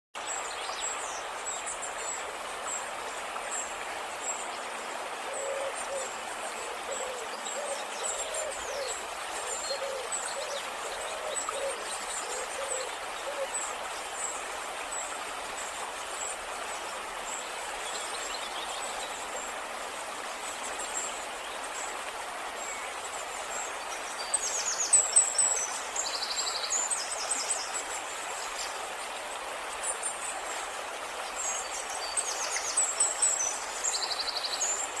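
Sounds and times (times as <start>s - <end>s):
background hiss: 0.2s - 35.0s.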